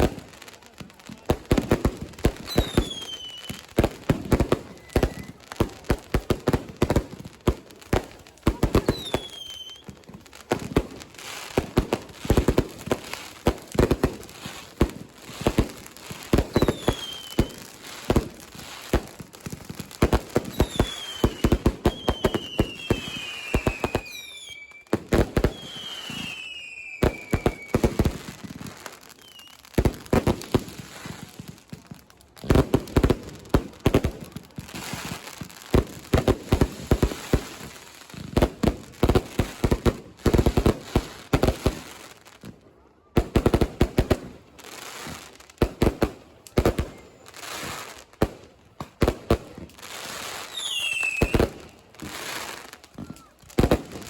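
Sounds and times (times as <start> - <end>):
whistling fireworks falling: 0.0 - 54.0.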